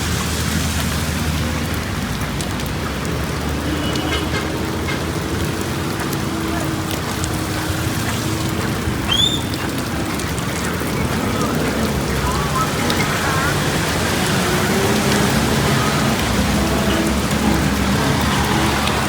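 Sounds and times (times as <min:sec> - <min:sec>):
rain falling on street: 0:00.0 - 0:19.0
traffic engines humming: 0:00.0 - 0:19.0.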